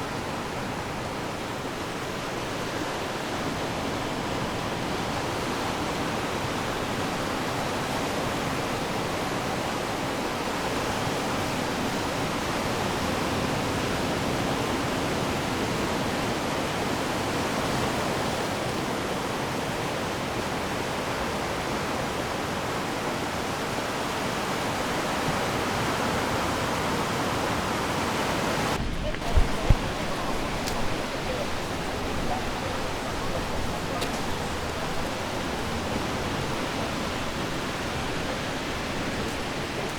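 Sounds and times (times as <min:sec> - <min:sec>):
ocean surf washing on shore: 0:00.0 - 0:39.9.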